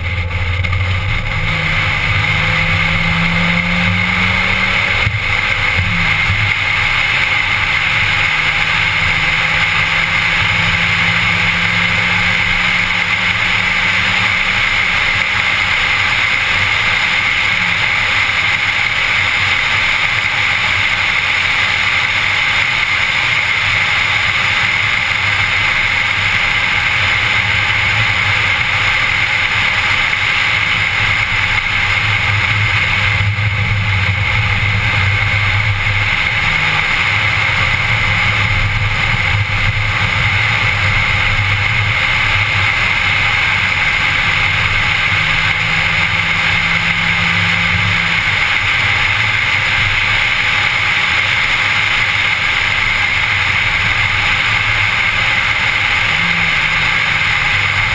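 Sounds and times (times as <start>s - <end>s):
car engine drone: 0.0s - 57.9s
road and wind noise: 0.0s - 57.9s.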